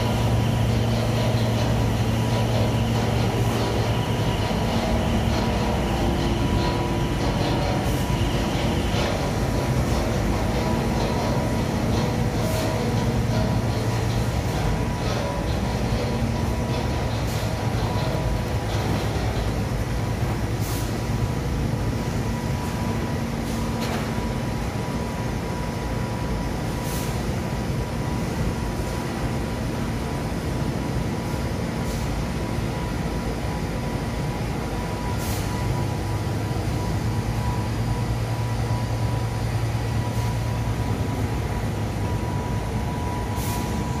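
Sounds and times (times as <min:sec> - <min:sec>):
machinery humming: 0:00.0 - 0:44.0.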